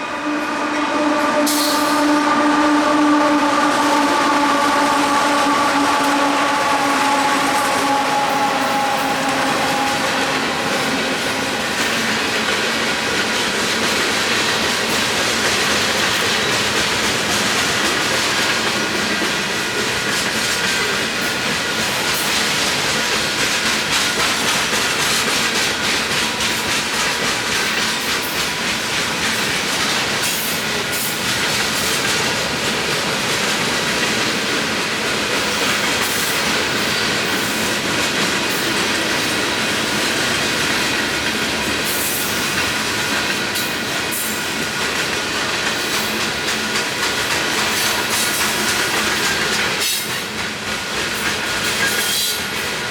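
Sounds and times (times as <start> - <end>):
freight train rumbling past: 0.0 - 52.9
wheels clicking over rail joints: 5.4 - 52.9.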